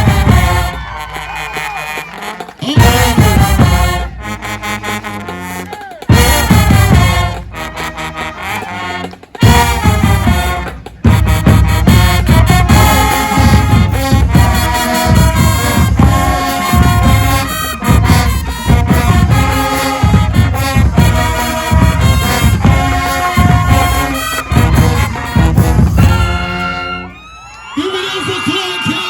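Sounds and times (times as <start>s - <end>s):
brass horns playing: 0.0s - 27.3s.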